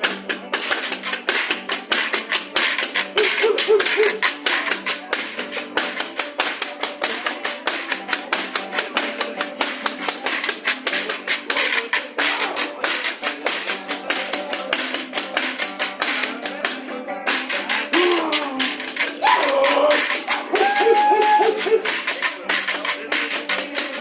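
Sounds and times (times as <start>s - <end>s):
guitar-like music: 0.0s - 24.0s
jawbone percussion rattling: 0.0s - 24.0s.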